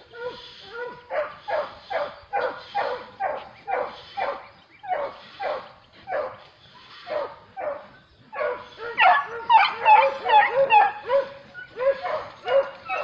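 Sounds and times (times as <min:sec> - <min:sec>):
dog barking: 0:00.2 - 0:06.4, 0:07.1 - 0:13.0.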